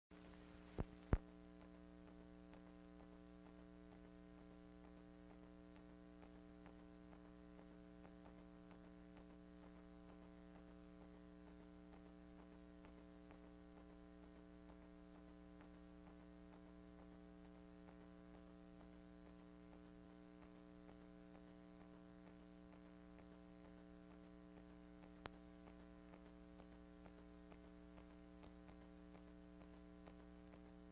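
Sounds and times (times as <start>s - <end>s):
faint electrical hum: 0.2s - 30.9s.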